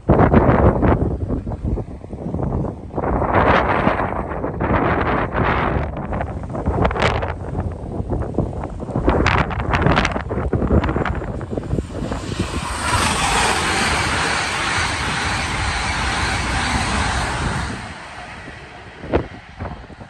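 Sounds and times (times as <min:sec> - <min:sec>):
electric train passing: 0:00.0 - 0:20.0
wind buffeting microphone: 0:00.0 - 0:20.0.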